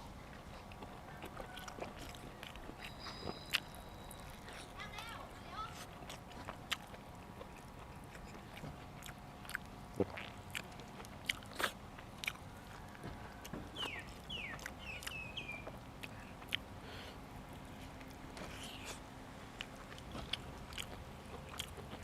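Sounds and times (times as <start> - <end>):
biting and chewing crunches: 0.1 - 5.0, 5.7 - 16.7, 17.5 - 22.0.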